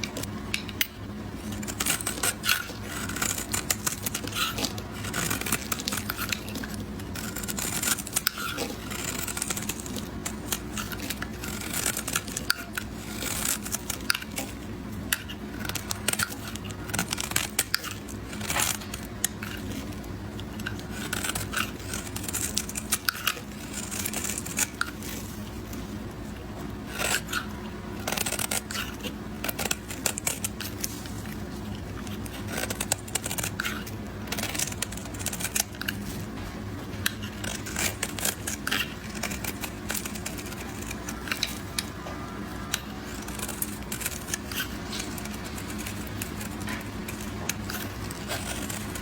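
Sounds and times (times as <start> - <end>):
knife cutting soap: 0.0 - 49.0.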